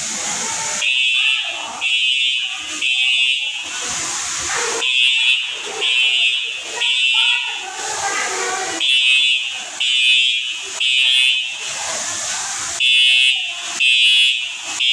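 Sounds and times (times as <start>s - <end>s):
fire alarm beeping: 0.7s - 7.6s, 8.8s - 11.9s, 12.8s - 14.9s.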